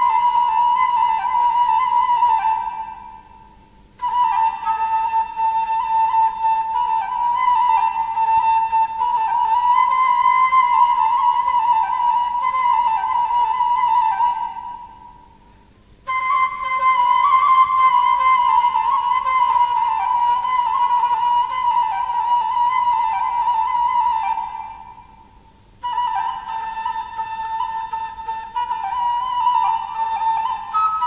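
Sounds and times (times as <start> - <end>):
solo flute melody: 0.0 - 31.0.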